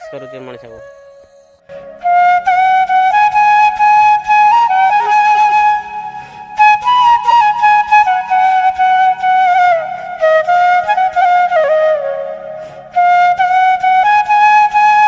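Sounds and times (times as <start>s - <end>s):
flute melody with bending notes: 0.0s - 15.0s.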